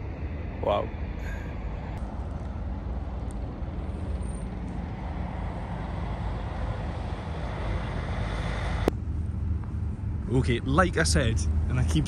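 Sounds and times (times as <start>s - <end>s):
distant traffic: 0.0s - 12.0s.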